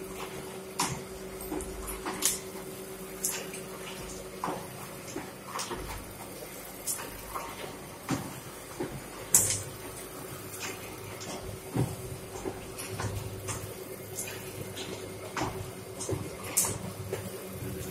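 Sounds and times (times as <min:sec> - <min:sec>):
motor hum: 0:00.0 - 0:17.9.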